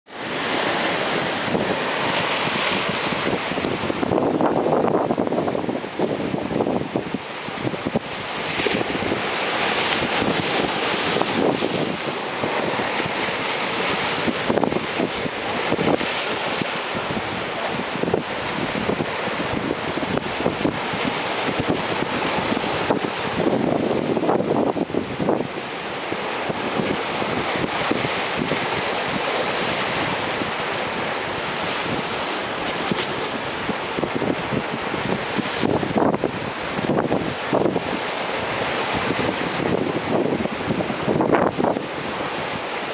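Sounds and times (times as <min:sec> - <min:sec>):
ocean surf breaking: 0:00.1 - 0:42.9
wind buffeting microphone: 0:00.1 - 0:42.9.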